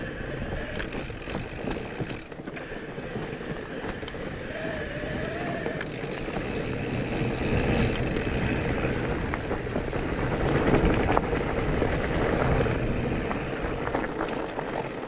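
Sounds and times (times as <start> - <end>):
bike tyres rumbling on trail: 0.0 - 15.0
wind noise: 0.0 - 15.0
bike knocks and rattles: 0.7 - 4.3, 5.8 - 15.0.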